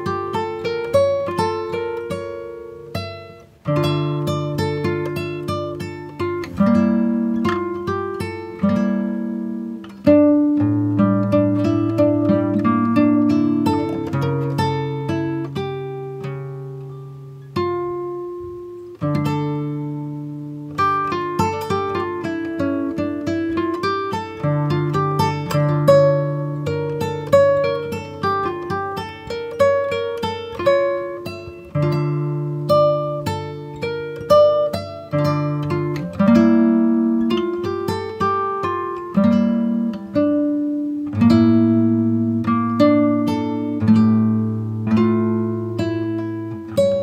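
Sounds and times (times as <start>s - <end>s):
acoustic guitar plucked chords: 0.0s - 47.0s.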